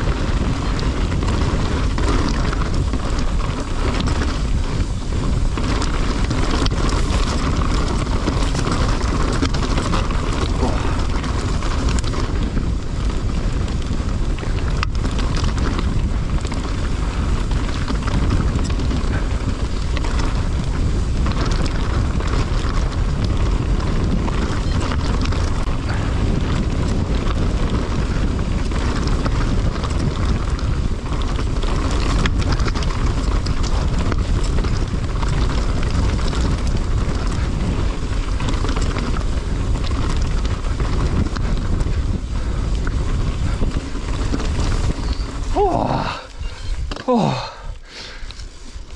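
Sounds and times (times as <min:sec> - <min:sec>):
bike knocking on rocks: 0:00.0 - 0:48.5
bike tyres rumbling over rocks: 0:00.0 - 0:48.9
wind buffeting microphone: 0:00.0 - 0:48.9.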